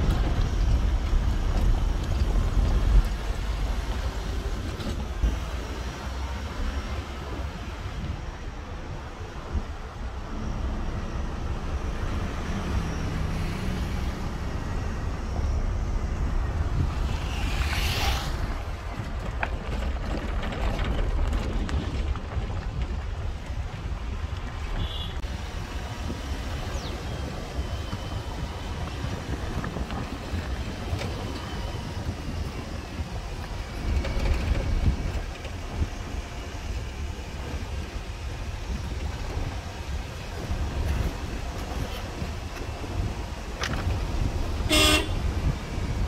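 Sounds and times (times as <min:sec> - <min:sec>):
vehicle road noise: 0:00.0 - 0:46.0
wind buffeting microphone: 0:00.0 - 0:46.0.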